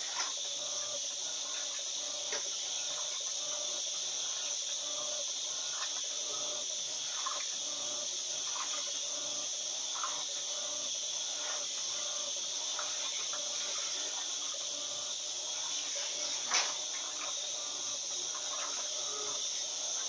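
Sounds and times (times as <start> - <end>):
washing machine agitating water: 0.0 - 20.0.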